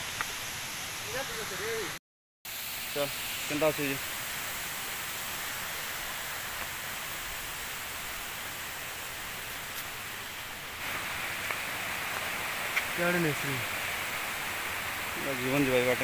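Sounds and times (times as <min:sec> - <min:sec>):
water rushing over rocks: 0:03.0 - 0:16.0.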